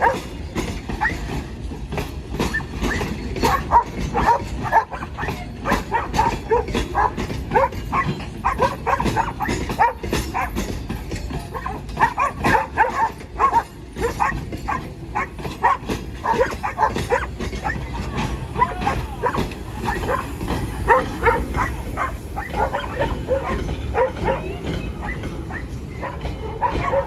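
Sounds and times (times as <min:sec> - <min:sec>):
dog barking: 0:00.0 - 0:00.4, 0:03.4 - 0:10.6, 0:11.5 - 0:17.9, 0:18.6 - 0:27.0.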